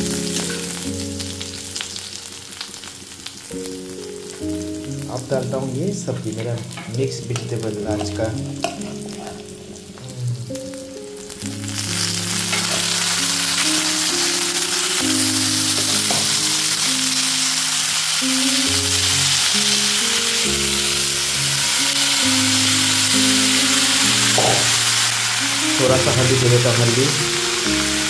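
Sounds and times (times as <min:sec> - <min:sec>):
background music with melody: 0:00.0 - 0:28.0
vegetables sizzling in hot oil: 0:00.0 - 0:28.0.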